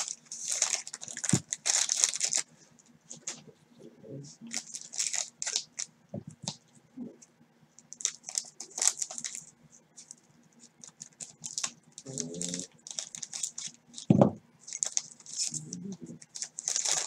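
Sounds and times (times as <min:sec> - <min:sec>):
wrapper crinkling: 0:00.0 - 0:02.5, 0:04.4 - 0:06.6, 0:07.8 - 0:17.0.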